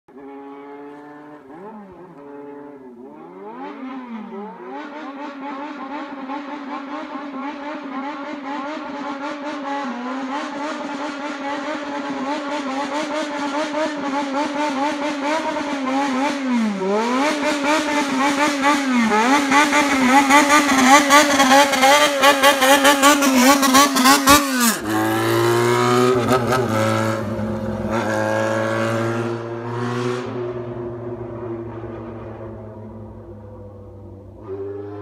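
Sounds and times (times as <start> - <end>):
motorcycle engine revving: 0.1 - 35.0.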